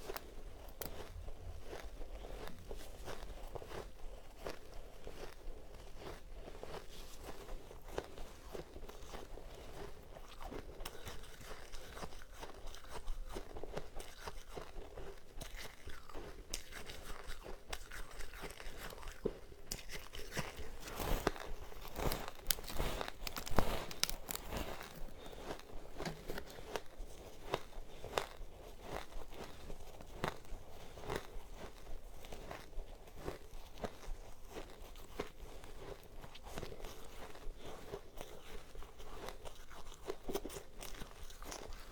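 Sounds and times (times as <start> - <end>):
crunching and chewing ice: 0.0 - 41.9.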